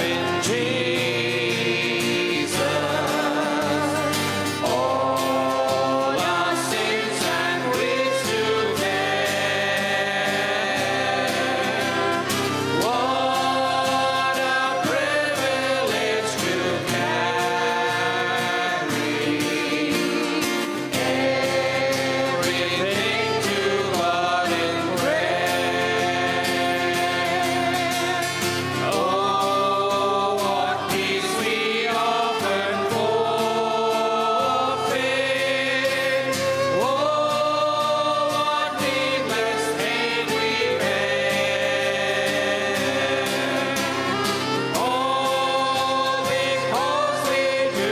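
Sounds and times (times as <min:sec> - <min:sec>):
guitar: 0:00.0 - 0:47.9
keyboard: 0:00.0 - 0:47.9
people singing together: 0:00.0 - 0:47.9.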